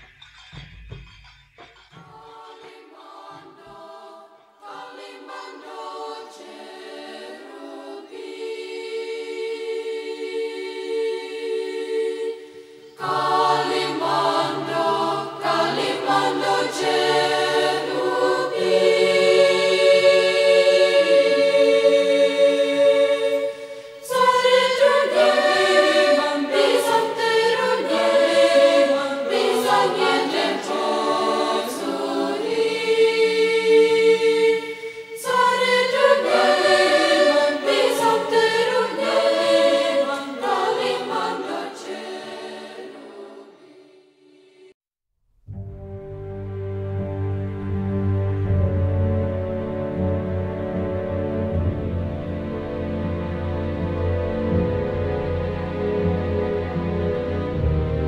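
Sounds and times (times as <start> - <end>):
choir singing long chords: 2.0 - 44.8, 45.5 - 58.0.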